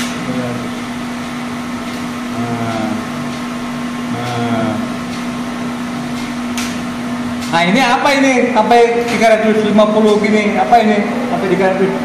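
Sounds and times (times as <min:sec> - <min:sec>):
water machine humming and hissing: 0:00.0 - 0:12.0.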